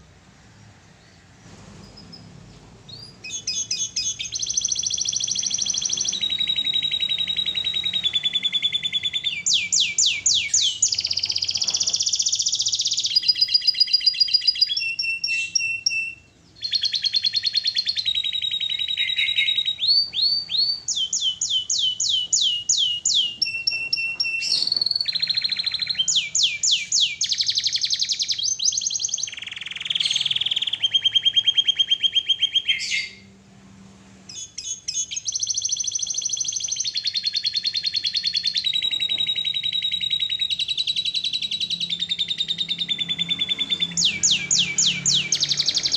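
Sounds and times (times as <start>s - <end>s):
canary singing: 0.9s - 33.5s, 34.2s - 45.9s.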